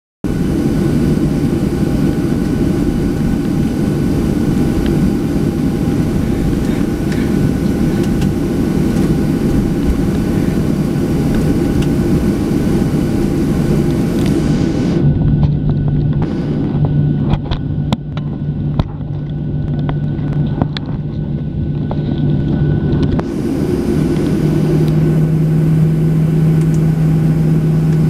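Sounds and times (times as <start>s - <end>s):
faint jet engine whine: 0.2s - 28.0s
jet engine rumble: 0.2s - 28.0s.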